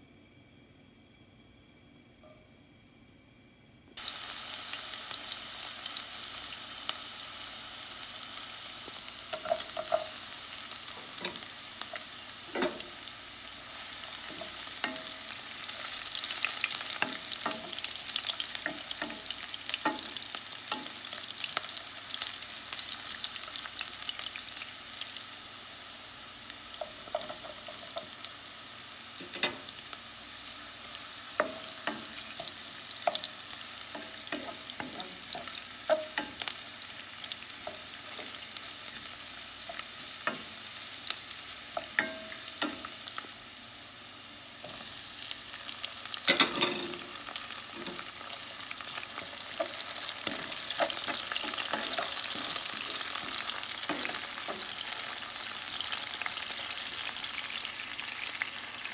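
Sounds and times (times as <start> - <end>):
onion sizzling in hot oil: 4.0 - 58.9.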